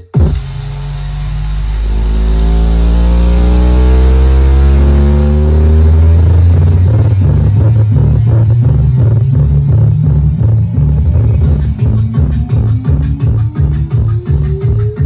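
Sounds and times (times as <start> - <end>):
deep bass pitch sweep: 0.0 - 15.0
pulsing bass beat: 0.0 - 15.0.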